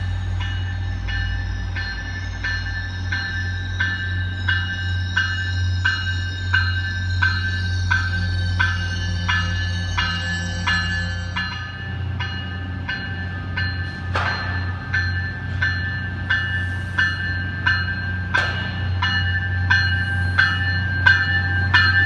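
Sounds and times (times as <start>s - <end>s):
bell ringing: 0.0s - 22.0s
train low rumble: 0.0s - 22.0s.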